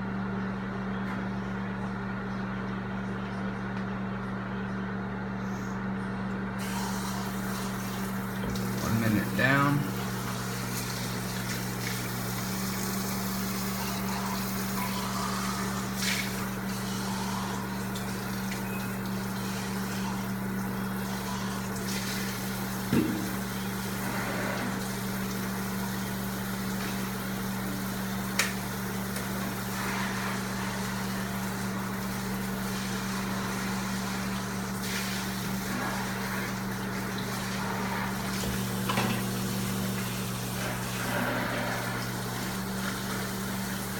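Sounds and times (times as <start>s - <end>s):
microwave oven humming: 0.0s - 43.9s.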